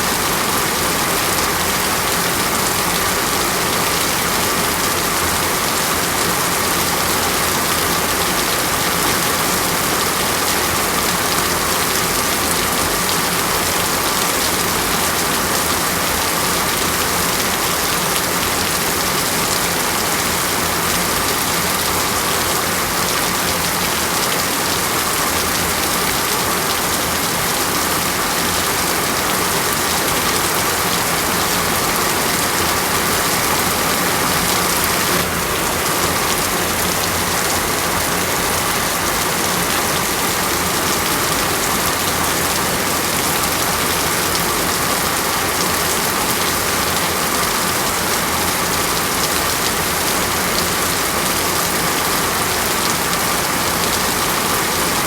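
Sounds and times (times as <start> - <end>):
rain on hard surface: 0.0 - 55.0.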